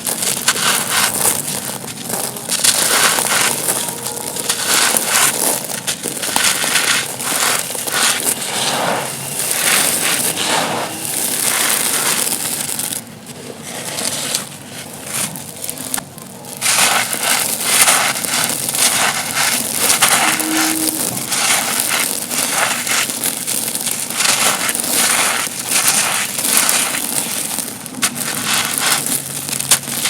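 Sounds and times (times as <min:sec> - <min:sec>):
stony chunks crunching: 0:00.0 - 0:30.0.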